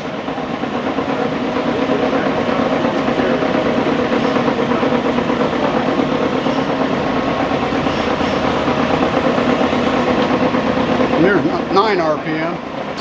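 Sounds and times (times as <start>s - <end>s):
lathe motor humming: 0.0s - 13.0s.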